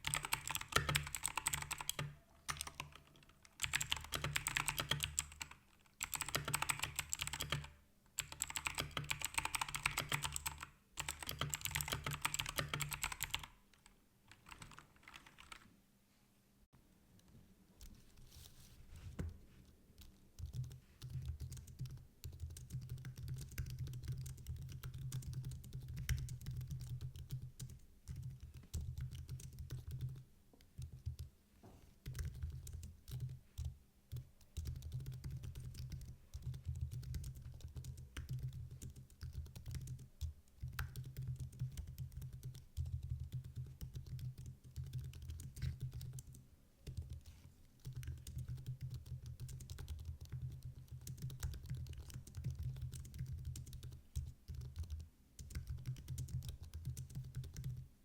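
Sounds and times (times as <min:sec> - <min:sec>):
keyboard typing: 0:00.0 - 0:15.7, 0:19.2 - 0:30.2, 0:32.0 - 0:57.9.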